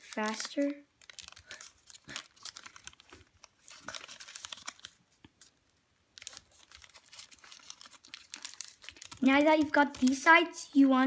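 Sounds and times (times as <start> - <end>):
paper crinkling and rustling: 0.0 - 10.5.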